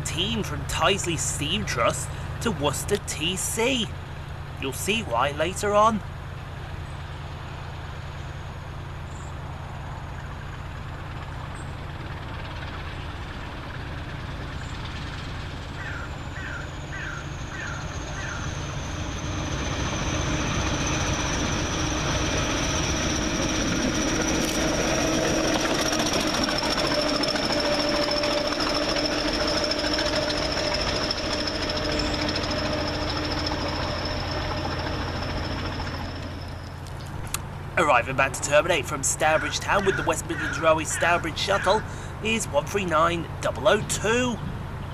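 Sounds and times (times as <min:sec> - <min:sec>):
diesel locomotive engine rumble: 0:00.0 - 0:44.9.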